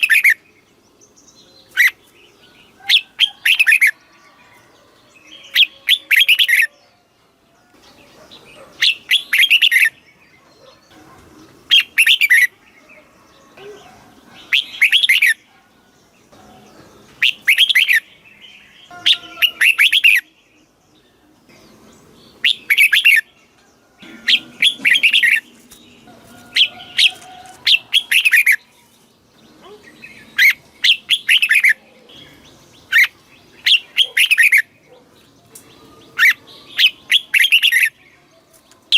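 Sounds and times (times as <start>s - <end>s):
bird singing warbling phrases: 0.0s - 4.1s, 5.2s - 38.9s.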